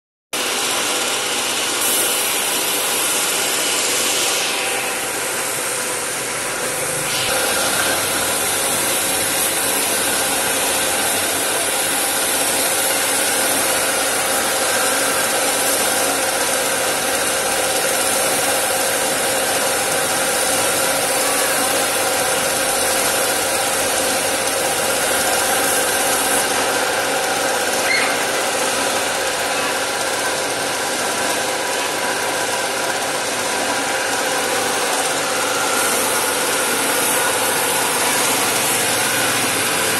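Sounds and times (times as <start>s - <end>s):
steady machine hum: 0.4s - 39.9s
paint spray gun hissing: 1.8s - 29.0s, 34.4s - 39.9s.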